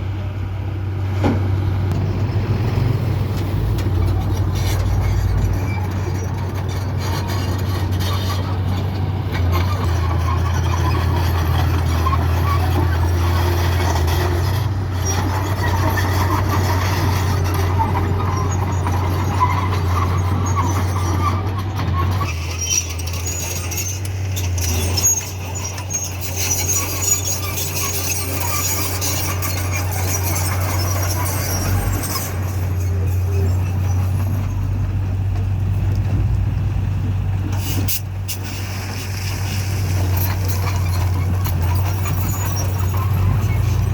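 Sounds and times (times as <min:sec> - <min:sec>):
dump trucks and bulldozer working: 0:00.0 - 0:43.9.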